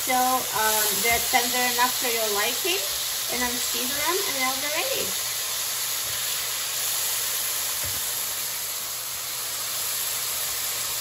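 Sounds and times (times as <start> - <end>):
pears sizzling in oil: 0.0 - 11.0.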